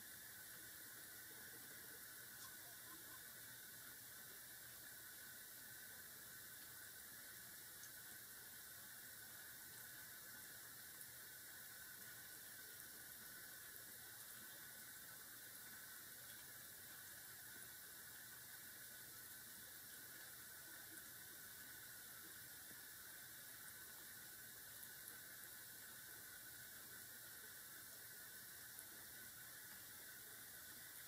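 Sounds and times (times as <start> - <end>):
faint ticks: 0.0 - 31.0
steady recording hiss: 0.0 - 31.0.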